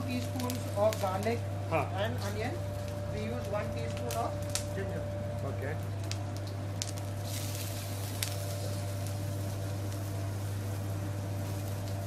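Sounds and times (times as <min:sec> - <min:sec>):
ginger sizzling in hot oil: 0:00.0 - 0:12.0
low kitchen hum: 0:00.0 - 0:12.0.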